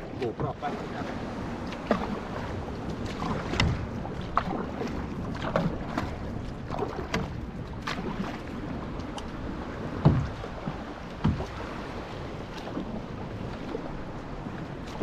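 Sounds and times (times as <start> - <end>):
paddle splashing in water: 0.0 - 15.0
water rushing: 0.0 - 15.0
wind against microphone: 0.0 - 15.0.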